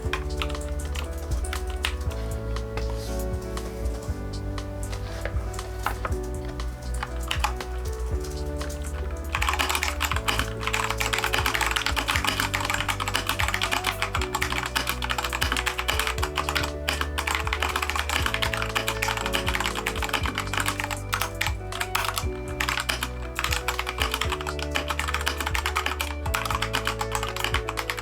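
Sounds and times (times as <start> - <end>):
mechanical keyboard typing: 0.0 - 4.0, 5.3 - 28.0
background music: 0.0 - 28.0.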